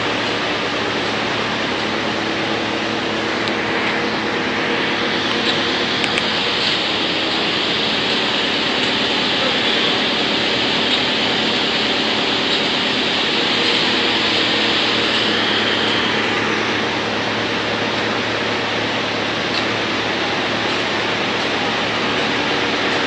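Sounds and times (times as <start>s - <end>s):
wood chipper chipping wood: 0.0s - 23.0s.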